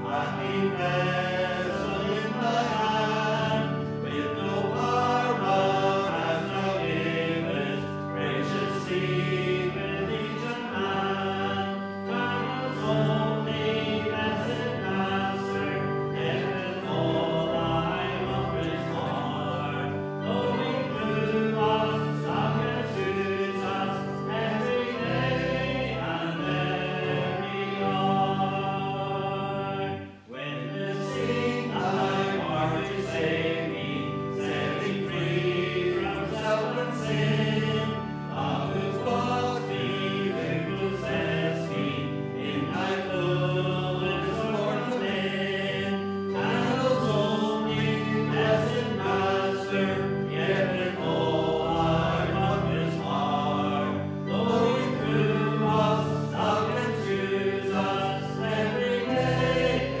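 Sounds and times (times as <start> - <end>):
congregation singing: 0.0 - 60.0
musical accompaniment: 0.0 - 60.0.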